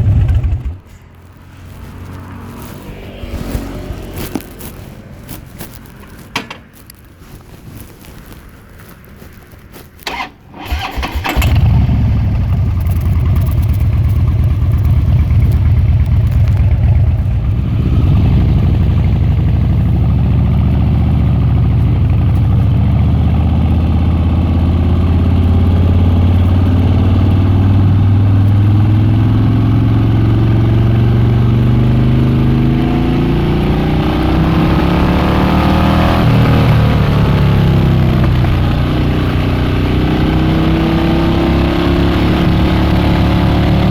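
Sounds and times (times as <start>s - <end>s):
motorcycle engine starting: 0.0s - 6.8s, 9.8s - 43.9s
motorcycle exhaust revving: 0.0s - 7.0s, 10.1s - 43.9s.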